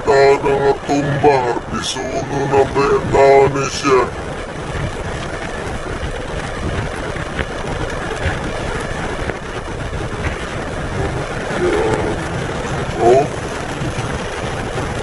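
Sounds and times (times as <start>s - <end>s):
low rumble: 0.0s - 15.0s
storm wind buffeting a car: 0.0s - 15.0s.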